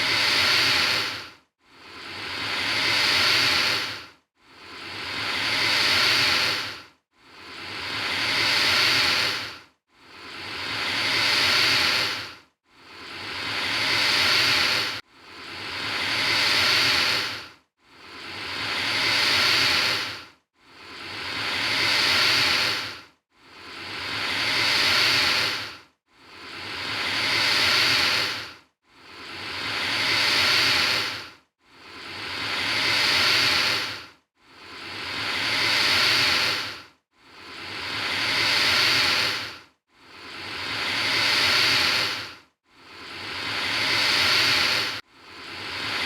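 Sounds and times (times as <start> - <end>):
alligator hissing: 0.0 - 1.2, 2.0 - 4.0, 4.7 - 6.8, 7.4 - 9.5, 10.2 - 12.3, 12.9 - 17.4, 18.1 - 20.2, 20.8 - 23.0, 23.6 - 25.7, 26.4 - 31.2, 31.9 - 34.0, 34.7 - 36.8, 37.4 - 39.6, 40.3 - 46.0.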